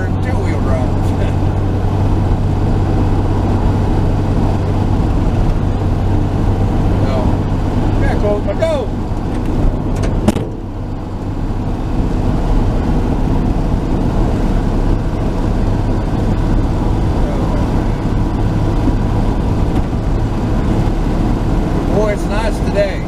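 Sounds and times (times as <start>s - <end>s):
engine and road hum: 0.0s - 23.0s.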